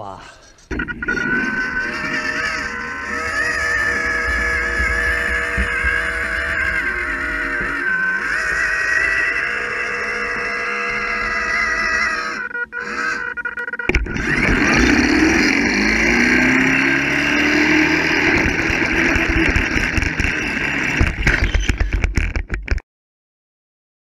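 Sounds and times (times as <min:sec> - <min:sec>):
whirring tone rising in pitch: 0:00.6 - 0:22.0
pulleys rushing rumble: 0:00.6 - 0:22.4.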